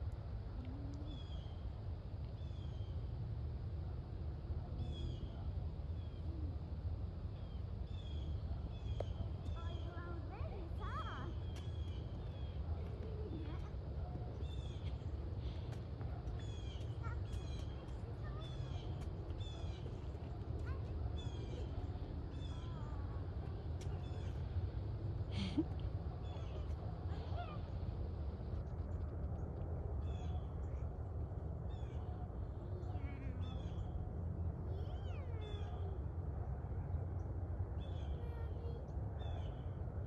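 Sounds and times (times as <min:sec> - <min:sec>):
steady low rumble: 0:00.0 - 0:40.0
songbirds chirping: 0:01.0 - 0:36.2.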